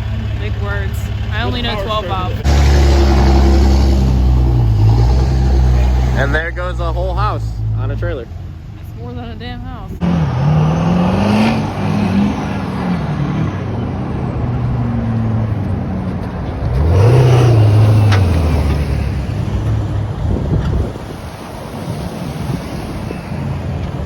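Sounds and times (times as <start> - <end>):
truck engines driving past: 0.0 - 24.0.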